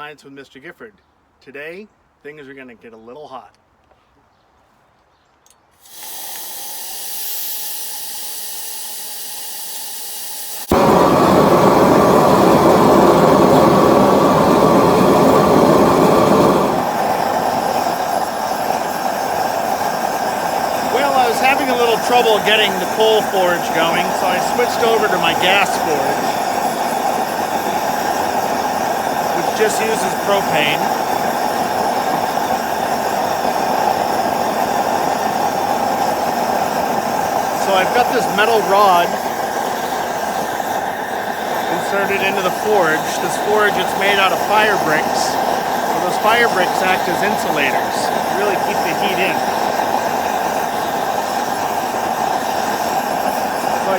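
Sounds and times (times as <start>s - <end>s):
gas burner roaring: 5.8s - 53.9s
gas hissing: 5.8s - 53.9s.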